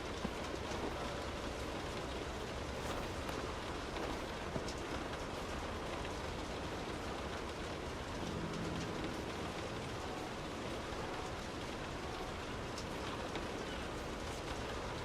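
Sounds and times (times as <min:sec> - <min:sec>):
rain heard from indoors: 0:00.0 - 0:15.0.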